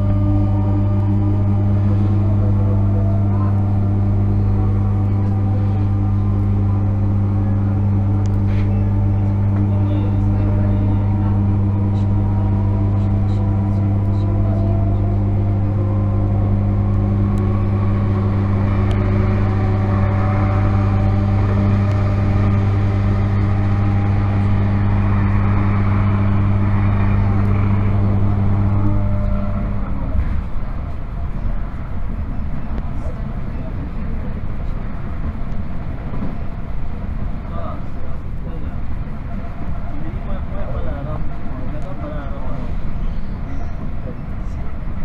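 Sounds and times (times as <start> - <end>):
electrical hum: 0.0 - 45.0
passing train rush: 0.0 - 45.0
train wheels rumbling on rail: 0.0 - 45.0
whining traction tones: 0.0 - 45.0.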